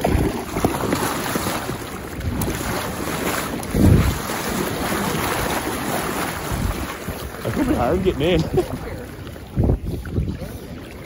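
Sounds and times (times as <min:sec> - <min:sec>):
river current rushing: 0:00.0 - 0:09.2
wind buffeting microphone: 0:00.0 - 0:11.0.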